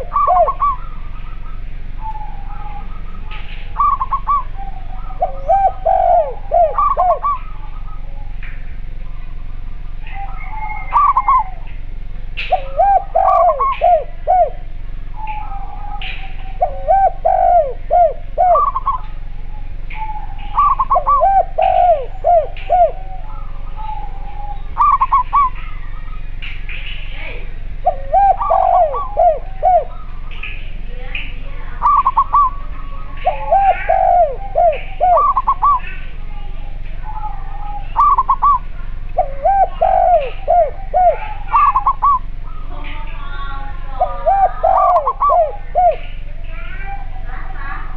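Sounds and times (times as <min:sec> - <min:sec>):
higher dove cooing: 0:00.0 - 0:26.4, 0:27.2 - 0:30.5, 0:31.5 - 0:47.9
low dove cooing: 0:00.0 - 0:47.9.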